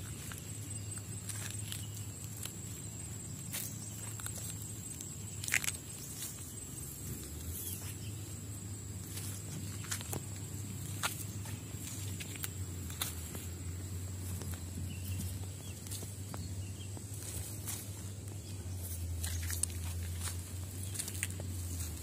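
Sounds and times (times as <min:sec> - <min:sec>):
footsteps on pebbles and gravel: 0:00.0 - 0:22.0.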